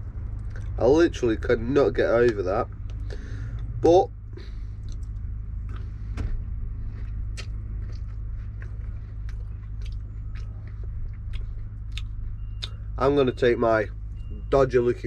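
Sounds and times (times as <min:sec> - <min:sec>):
lorry engine idling: 0:00.0 - 0:15.0.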